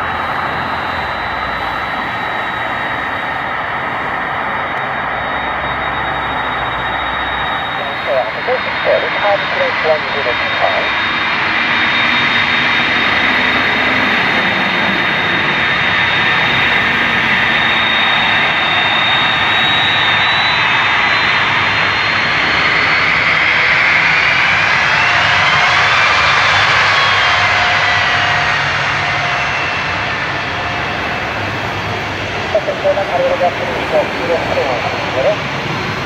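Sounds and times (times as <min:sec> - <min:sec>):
jet engines running with whine: 0:00.0 - 0:36.0.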